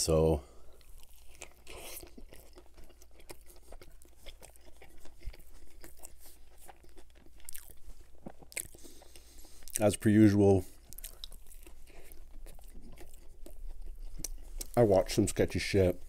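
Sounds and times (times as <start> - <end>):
person chewing food: 0.5 - 16.0.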